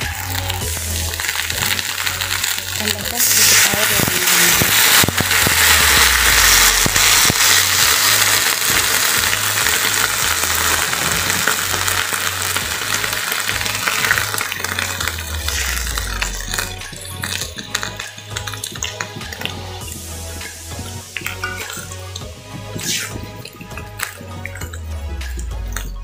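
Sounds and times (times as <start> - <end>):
water sizzling in a hot wok: 0.0 - 25.5
spatula scraping wok: 0.4 - 24.2.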